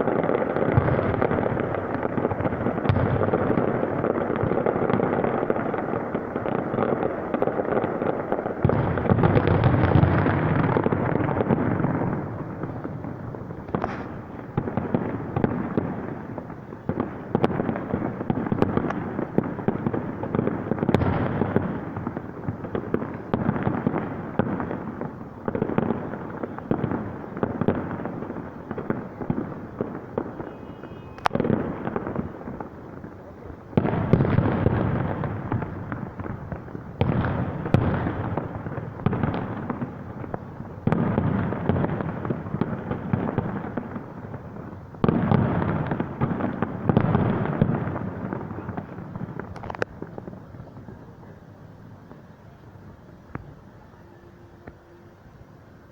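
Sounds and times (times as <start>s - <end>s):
fireworks booming and crackling: 0.0s - 55.9s.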